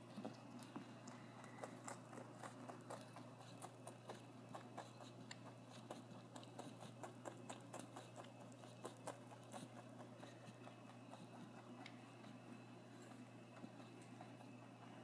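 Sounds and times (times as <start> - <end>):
rabbit chewing crisp crunches: 0.0 - 15.0.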